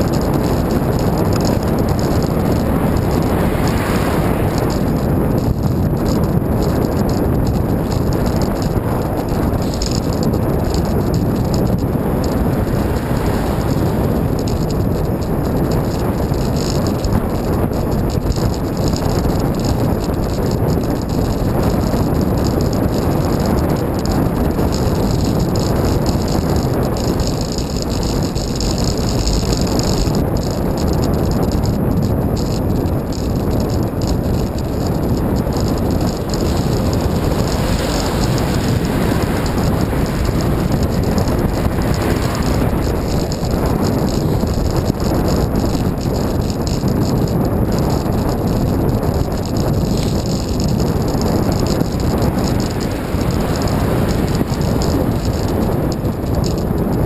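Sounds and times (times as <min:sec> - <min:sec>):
bicycle rattling: 0:00.0 - 0:57.0
wind rushing over microphone: 0:00.0 - 0:57.0.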